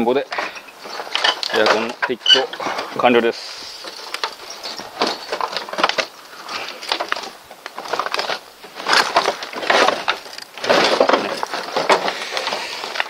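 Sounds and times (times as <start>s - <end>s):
debris crunching and snapping: 0.0s - 13.0s.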